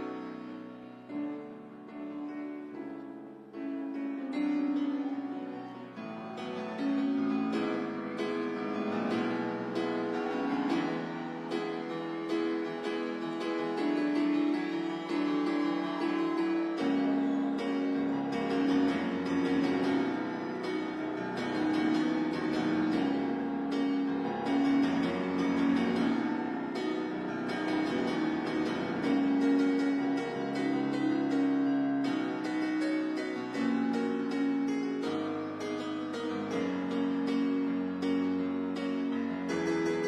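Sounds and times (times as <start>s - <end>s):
grand piano chords and melody: 0.0s - 40.0s.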